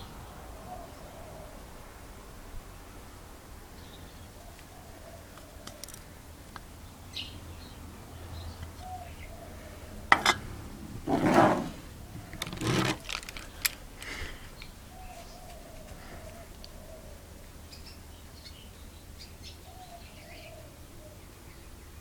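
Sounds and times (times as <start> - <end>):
birds chirping faintly: 2.8 - 22.0.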